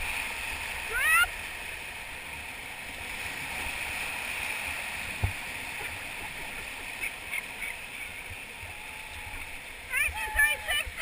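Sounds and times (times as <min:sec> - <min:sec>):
river whitewater rushing: 0:00.0 - 0:11.0.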